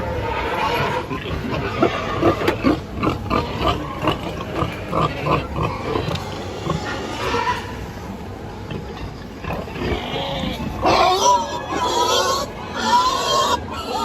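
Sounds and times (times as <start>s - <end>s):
pigs grunting and squealing: 0.0s - 14.0s.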